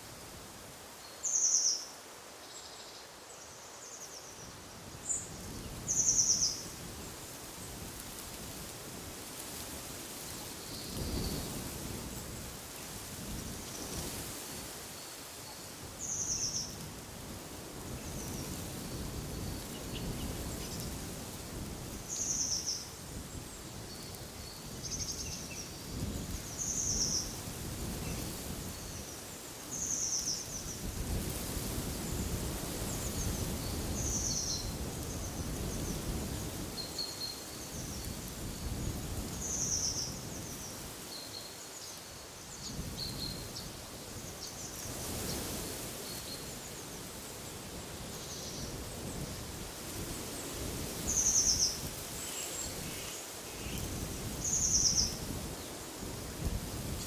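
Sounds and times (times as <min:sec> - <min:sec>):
wind gusts with low rumble: 0:04.4 - 0:57.0.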